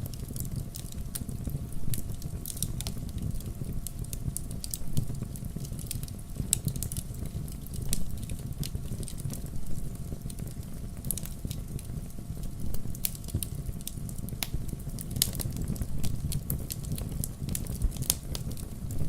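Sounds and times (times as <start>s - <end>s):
log fire crackling and popping: 0.0s - 19.0s
low rumble of flames: 0.0s - 19.0s.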